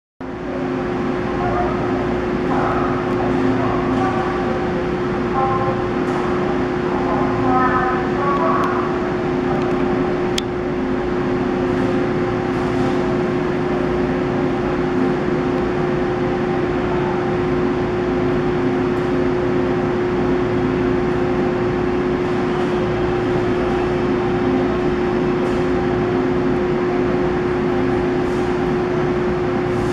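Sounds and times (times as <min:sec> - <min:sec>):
train humming: 0:00.2 - 0:29.9.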